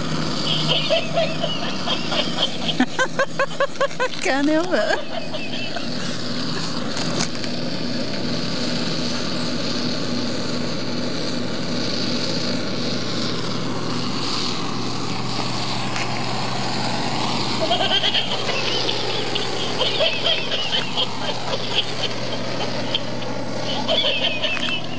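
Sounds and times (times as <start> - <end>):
blowtorch hissing: 0.0 - 24.9.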